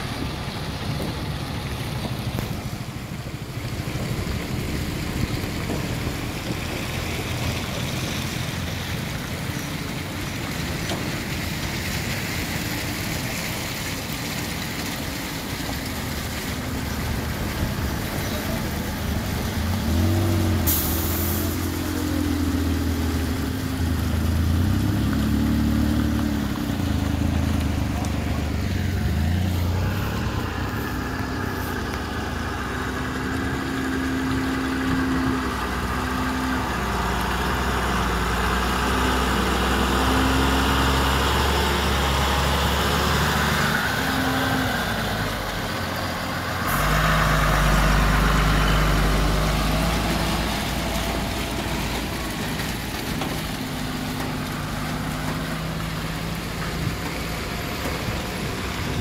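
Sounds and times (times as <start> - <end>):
truck diesel engines idling: 0.0 - 59.0
truck engine passing close by: 0.0 - 59.0.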